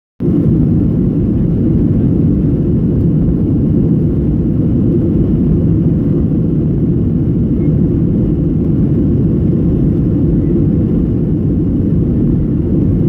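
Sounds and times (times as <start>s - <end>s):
jet engines rumbling in cabin: 0.2s - 13.0s.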